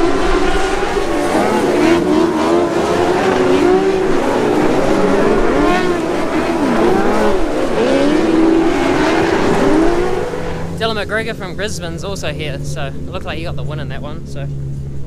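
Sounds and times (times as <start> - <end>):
race car engines revving past: 0.0 - 15.0.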